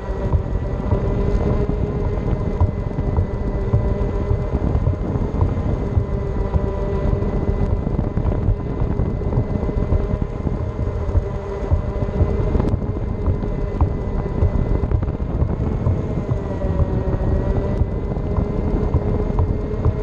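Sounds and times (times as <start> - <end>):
faint whine: 0.0 - 20.0
wheels rumbling on concrete: 0.0 - 20.0
wind buffeting microphone: 0.0 - 20.0.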